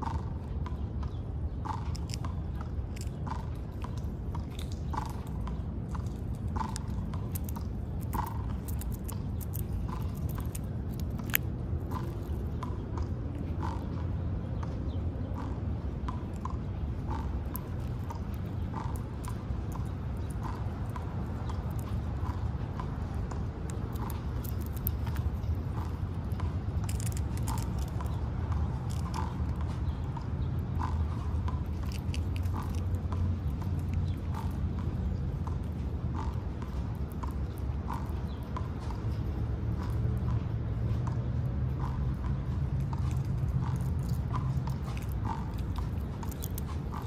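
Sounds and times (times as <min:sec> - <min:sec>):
squirrel crunching peanut shells: 0:01.6 - 0:13.9, 0:16.2 - 0:38.4, 0:42.6 - 0:47.0.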